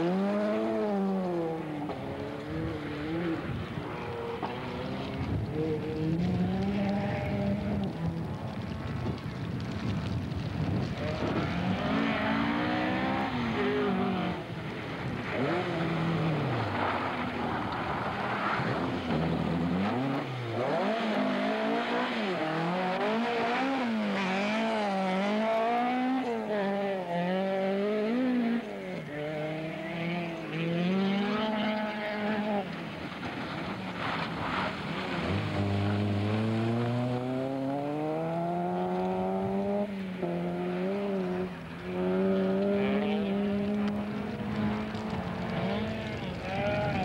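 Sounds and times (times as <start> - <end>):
rally car engine revving: 0.0 - 8.6, 10.8 - 47.0.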